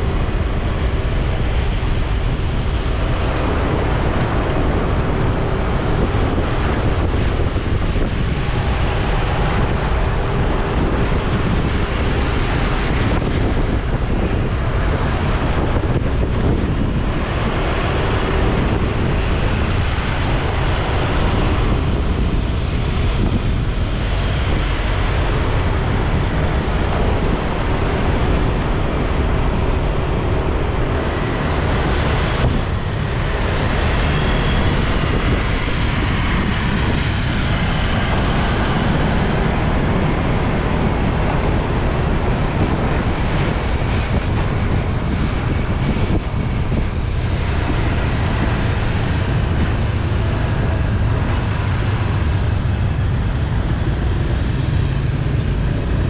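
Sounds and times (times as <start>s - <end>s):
motorbike engines running: 0.0s - 56.0s
tyres in traffic: 0.0s - 56.0s
wind noise on microphone: 0.0s - 56.0s.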